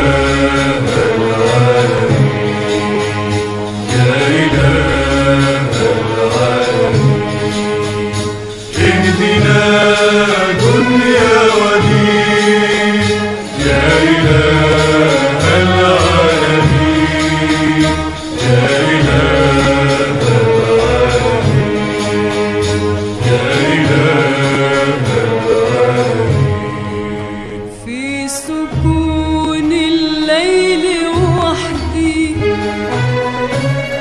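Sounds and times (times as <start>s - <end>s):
layered chanting voices: 0.0s - 31.0s.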